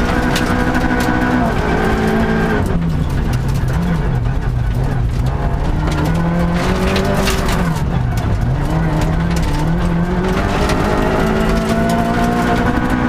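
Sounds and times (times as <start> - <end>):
rally car engine revving: 0.0 - 13.0
stones clicking against car: 0.0 - 13.0
tyres on gravel: 0.0 - 13.0.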